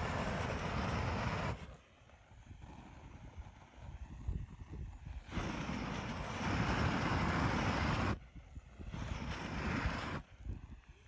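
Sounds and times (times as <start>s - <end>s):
torch flame rushing hiss: 0.0s - 10.7s.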